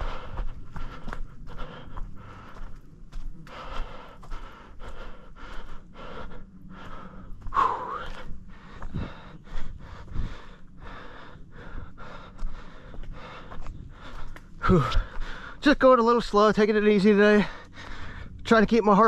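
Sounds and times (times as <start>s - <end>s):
person breathing hard: 0.0s - 15.6s, 17.4s - 18.4s
person gasping: 0.0s - 15.6s.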